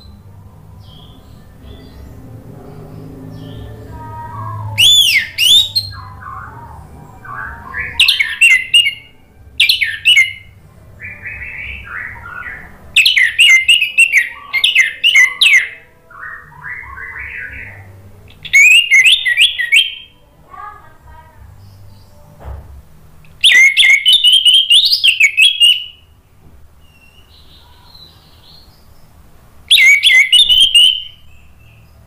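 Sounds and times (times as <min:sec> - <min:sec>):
thrush singing: 0:00.0 - 0:26.3, 0:26.9 - 0:32.0
faint low hum: 0:00.0 - 0:32.0.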